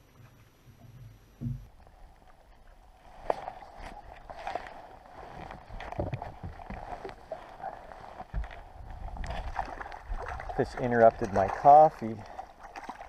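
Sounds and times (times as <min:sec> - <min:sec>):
water and boat noise: 0:00.0 - 0:13.0.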